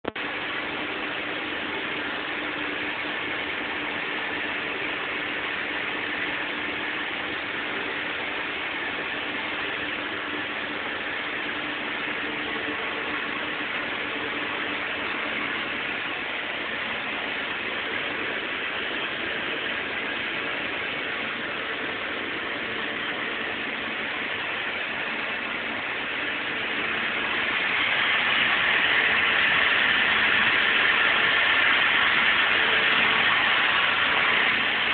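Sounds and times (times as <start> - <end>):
machine hissing: 0.2 - 34.9.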